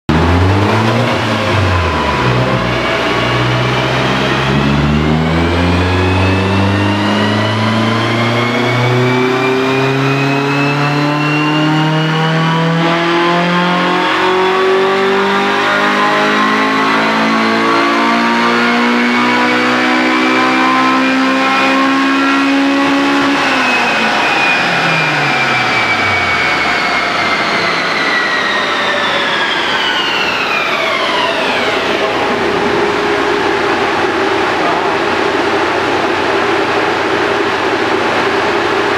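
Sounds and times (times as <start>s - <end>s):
car engine revving at full throttle: 0.0s - 38.9s.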